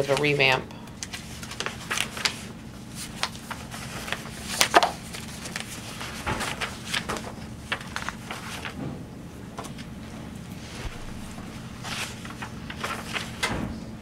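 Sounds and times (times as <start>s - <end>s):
papers rustling and clicking: 0.0s - 13.8s.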